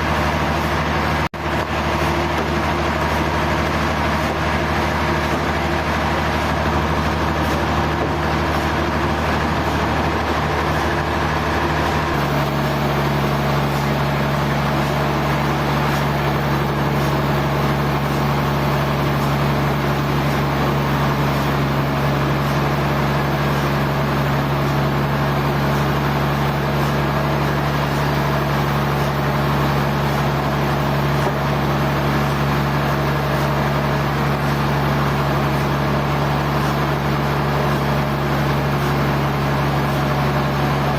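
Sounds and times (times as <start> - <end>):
sawmill machinery droning: 0.0 - 40.9.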